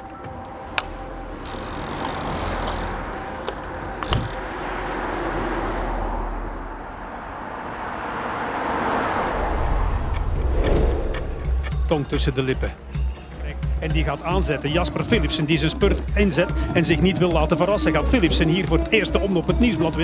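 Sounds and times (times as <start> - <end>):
rushing road vehicle noise: 0.0 - 20.0.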